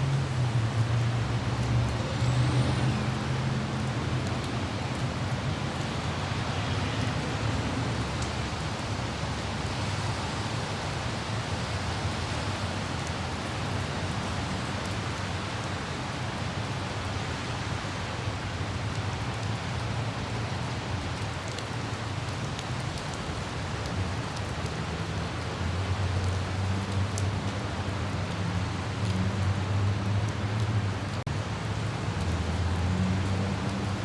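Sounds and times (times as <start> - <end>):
light rain falling: 0.0 - 34.0
low rumble of road traffic: 0.0 - 34.0.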